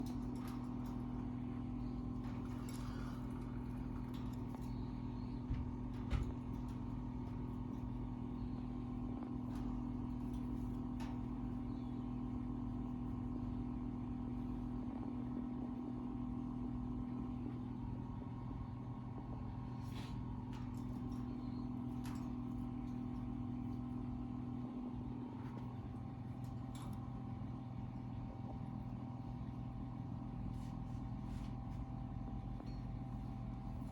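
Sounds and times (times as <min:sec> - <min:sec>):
mechanical hum: 0:00.0 - 0:33.9.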